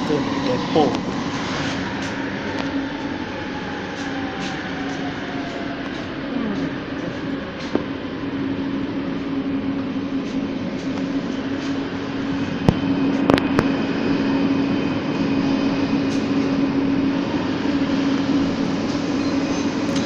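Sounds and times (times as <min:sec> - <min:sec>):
train electric hum: 0:00.0 - 0:20.0
train rolling noise: 0:00.0 - 0:20.0.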